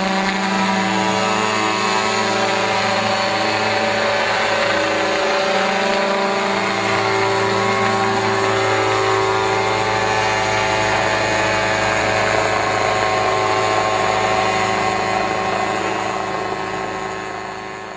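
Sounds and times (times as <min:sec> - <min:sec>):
small helicopter engine and rotor hum: 0:00.0 - 0:17.9.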